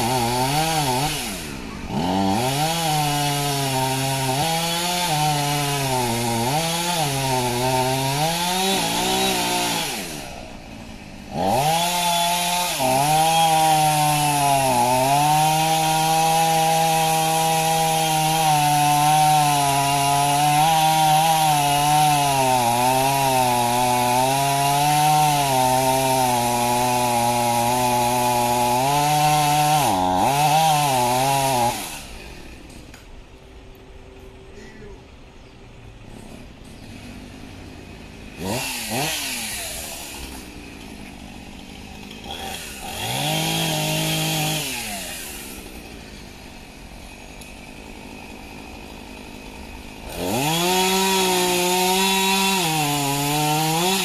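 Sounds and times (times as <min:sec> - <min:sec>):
chainsaw cutting wood: 0:00.0 - 0:33.1, 0:36.1 - 0:54.0.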